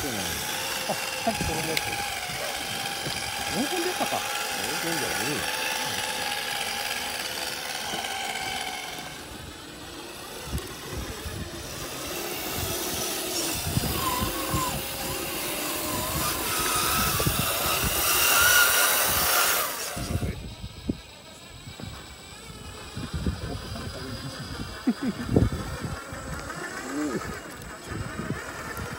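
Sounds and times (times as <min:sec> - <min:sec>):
small electric motors whining: 0:00.0 - 0:28.9.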